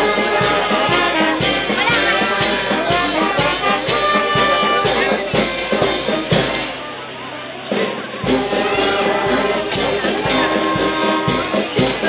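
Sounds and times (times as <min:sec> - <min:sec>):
brass band music: 0:00.0 - 0:12.0.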